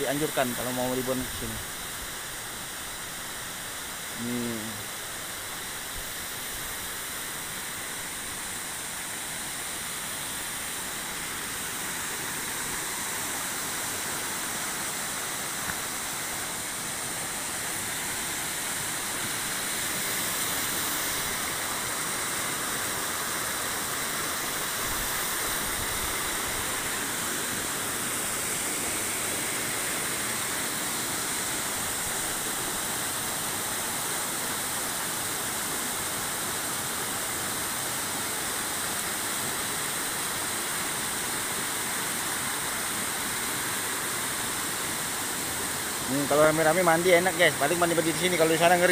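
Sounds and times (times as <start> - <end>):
water rushing over boulders: 0.0 - 48.9.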